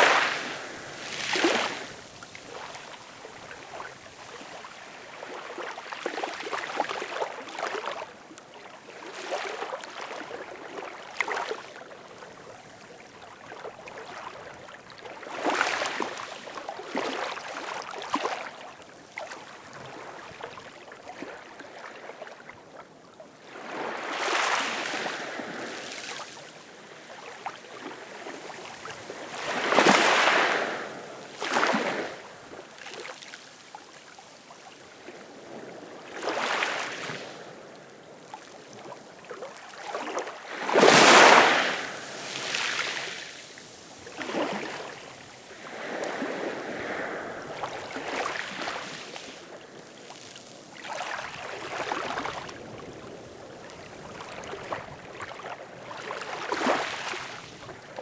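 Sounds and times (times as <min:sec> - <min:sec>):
ocean waves lapping on shore: 0:00.0 - 0:58.0.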